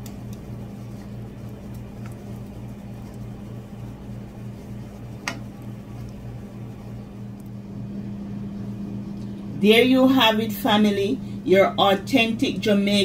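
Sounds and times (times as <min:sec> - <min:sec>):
low pulsing mechanical hum: 0:00.0 - 0:13.0.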